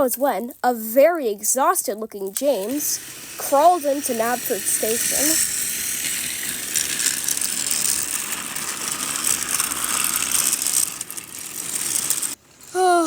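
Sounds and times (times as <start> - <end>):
toy train motor whirring: 1.4 - 13.0.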